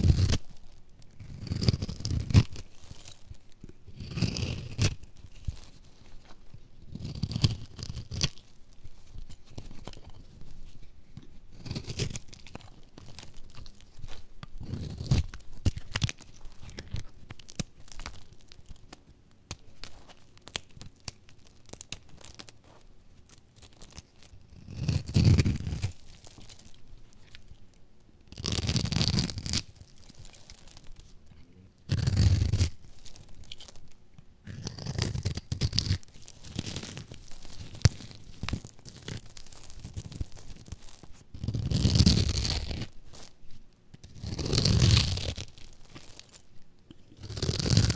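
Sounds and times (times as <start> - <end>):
soap crunching and cracking: 0.0 - 47.9
soap flakes scraping and rustling: 0.0 - 47.9.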